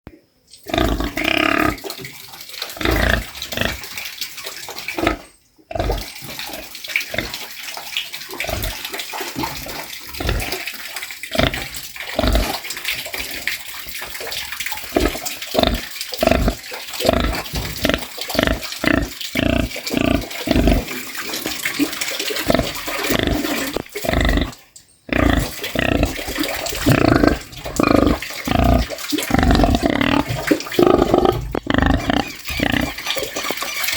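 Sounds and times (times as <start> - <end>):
pig grunting: 0.6 - 1.9, 2.7 - 4.0, 4.9 - 7.4, 8.4 - 10.7, 11.3 - 13.5, 14.8 - 21.2, 22.3 - 33.9.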